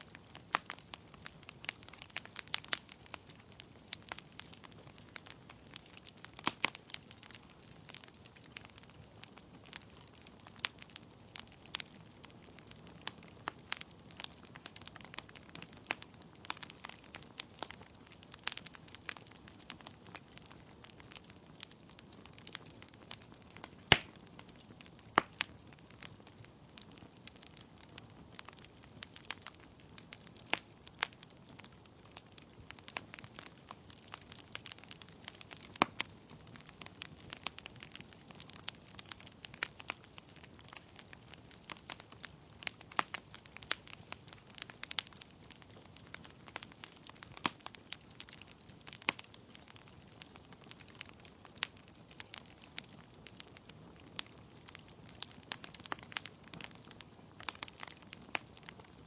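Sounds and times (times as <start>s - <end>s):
fire crackling with pops: 0.0s - 59.0s.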